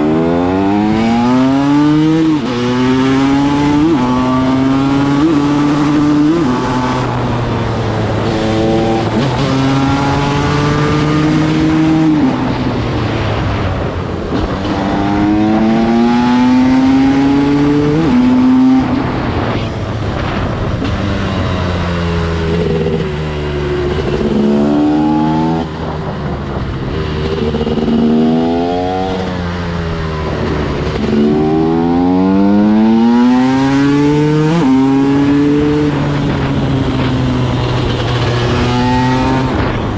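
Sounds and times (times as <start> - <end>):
two-stroke motorcycle engine revving: 0.0 - 12.6, 14.4 - 19.5, 20.7 - 39.9.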